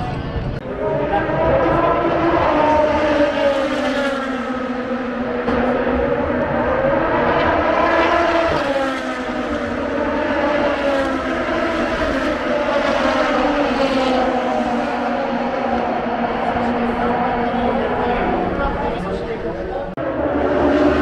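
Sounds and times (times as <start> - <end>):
racing car engines accelerating: 0.0 - 21.0.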